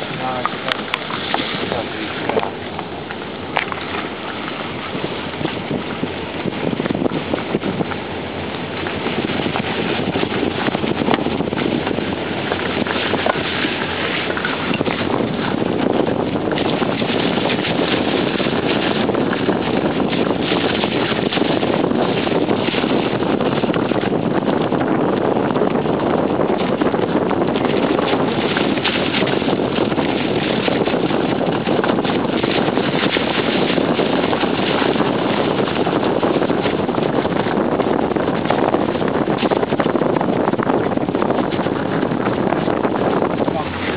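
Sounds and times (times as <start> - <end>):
car tyre and wind noise: 0.0 - 43.9.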